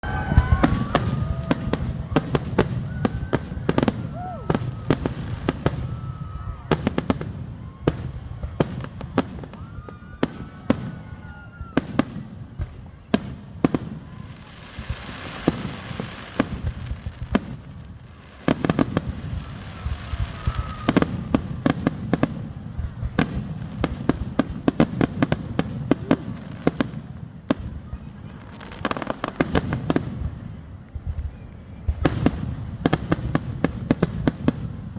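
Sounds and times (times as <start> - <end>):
firework whistles: 0.0 - 34.9
fireworks bangs and crackles: 0.0 - 34.9.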